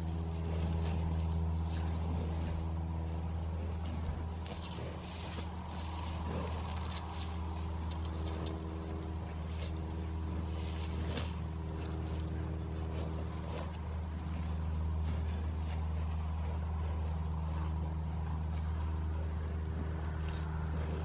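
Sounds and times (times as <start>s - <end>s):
faint clicks and rustles: 0.0s - 21.0s
low engine hum: 0.0s - 21.0s.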